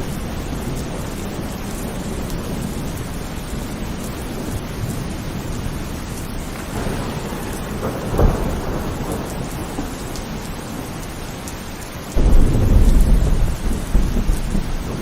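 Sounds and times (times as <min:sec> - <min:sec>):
heavy rain: 0:00.0 - 0:15.0
thunder rumbling: 0:00.0 - 0:15.0.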